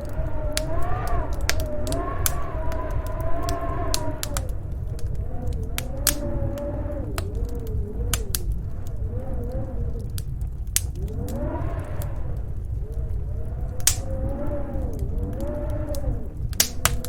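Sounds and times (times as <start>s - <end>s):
howling wind: 0.0s - 17.0s
wood fire crackling: 0.0s - 17.0s.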